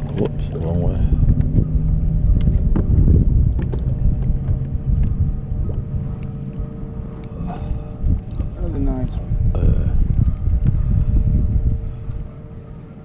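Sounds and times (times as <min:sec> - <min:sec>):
electric motor hum: 0:00.0 - 0:13.0
wind buffeting microphone: 0:00.0 - 0:13.0.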